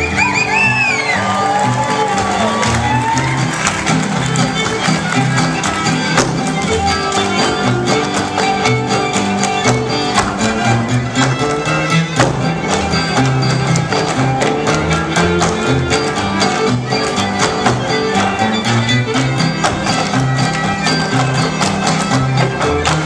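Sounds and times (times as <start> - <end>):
string band playing dance tune: 0.0 - 23.0
clogging shoes tapping on stage: 2.1 - 23.0.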